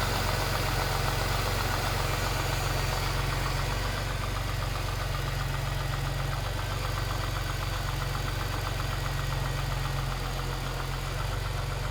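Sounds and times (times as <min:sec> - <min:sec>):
car engine idling with rattle: 0:00.0 - 0:11.9.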